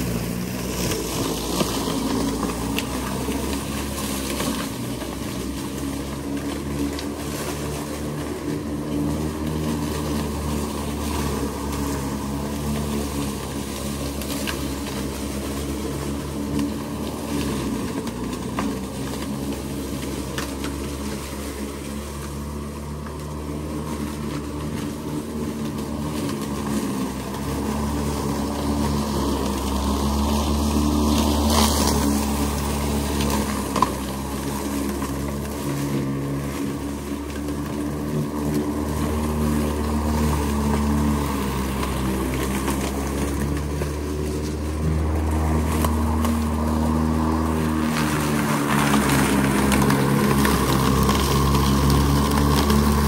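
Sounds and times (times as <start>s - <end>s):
lawn mower cutting grass: 0.0s - 53.0s.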